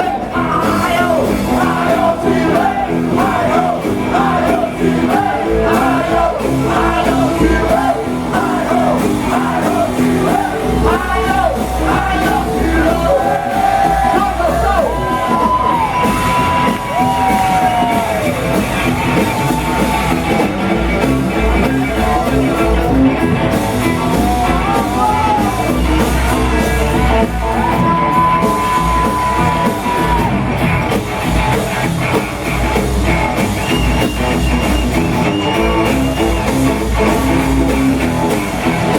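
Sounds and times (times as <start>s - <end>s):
rock and roll band playing: 0.0s - 38.9s.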